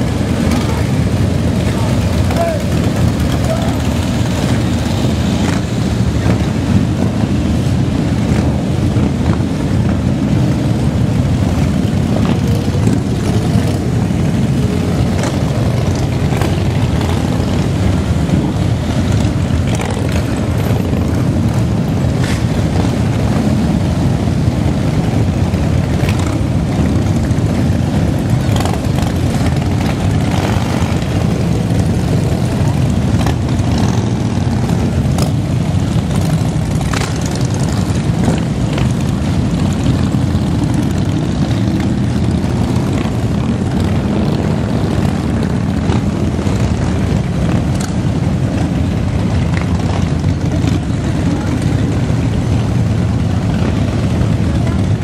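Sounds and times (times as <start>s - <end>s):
motorcycle engines rumbling: 0.0s - 55.0s.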